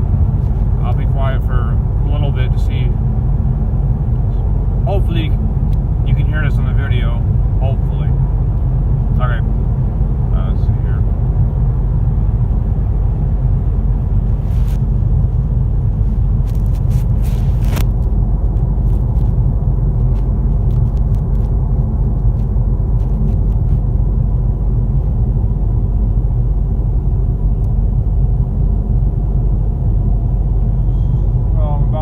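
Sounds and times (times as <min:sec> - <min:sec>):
tyre and road noise: 0:00.0 - 0:32.0.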